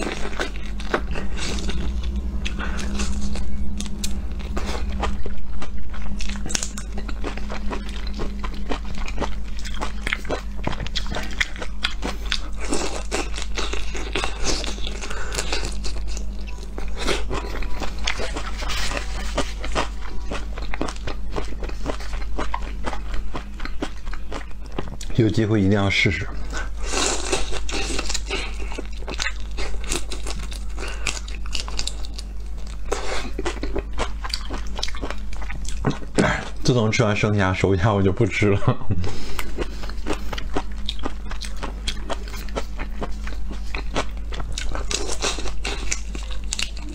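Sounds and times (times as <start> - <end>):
chewing crunchy prawns: 0.0 - 25.4, 26.2 - 36.7, 39.3 - 46.9
steady low hum: 0.0 - 46.9.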